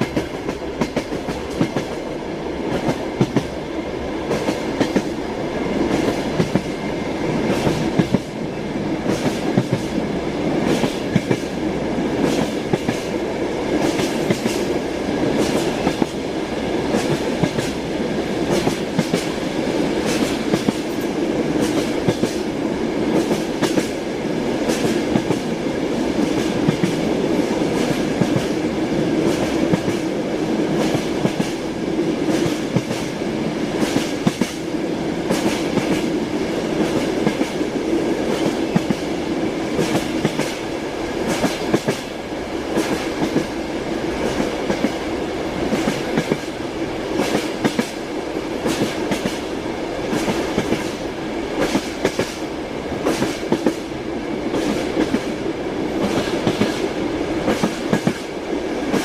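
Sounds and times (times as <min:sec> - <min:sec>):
train wheels clacking: 0:00.0 - 0:03.6, 0:04.3 - 0:05.2, 0:05.9 - 0:08.4, 0:09.0 - 0:16.2, 0:16.9 - 0:30.1, 0:30.7 - 0:34.7, 0:35.3 - 0:43.6, 0:44.2 - 0:45.0, 0:45.6 - 0:59.0
low hum from train: 0:00.0 - 0:59.0
train rumble: 0:00.0 - 0:59.0.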